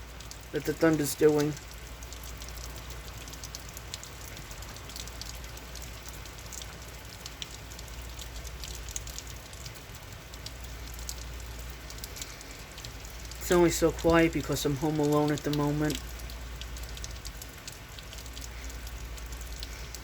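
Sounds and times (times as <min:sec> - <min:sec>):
raindrops ticking: 0:00.0 - 0:20.0
steady rain: 0:00.0 - 0:20.0.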